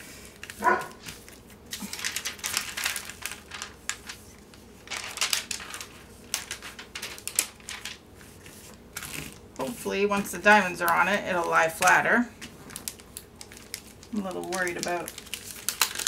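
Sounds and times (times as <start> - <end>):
plastic film crinkling: 0.2 - 16.0.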